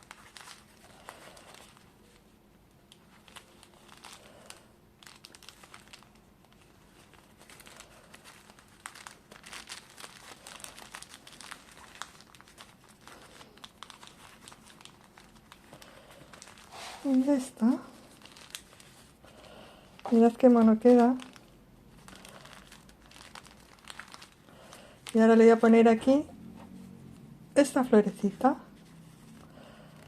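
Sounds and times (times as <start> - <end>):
rustling and crinkling: 0.0 - 30.0.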